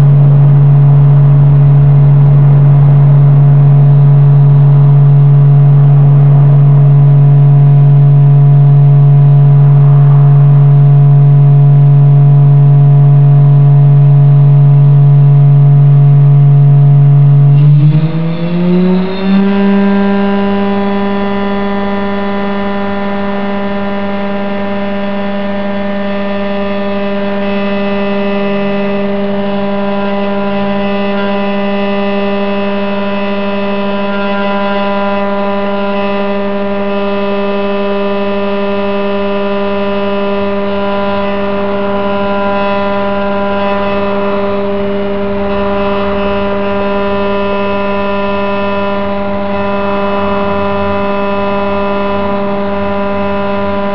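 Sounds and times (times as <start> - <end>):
electrospindle whine: 0.0 - 53.9.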